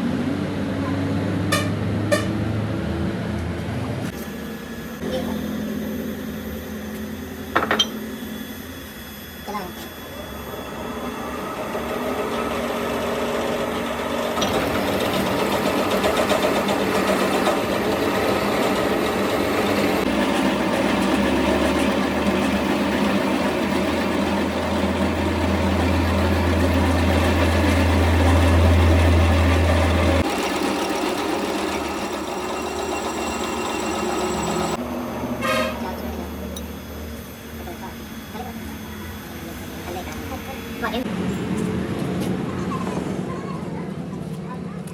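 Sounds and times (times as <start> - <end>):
machine tool running: 4.1 - 42.2.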